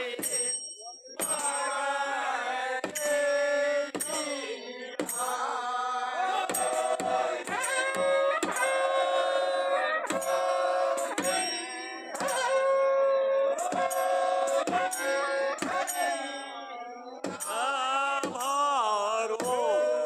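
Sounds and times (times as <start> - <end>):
men singing together: 0.0 - 0.6, 1.2 - 12.6, 13.6 - 20.0
sharp percussion strokes: 0.0 - 18.7.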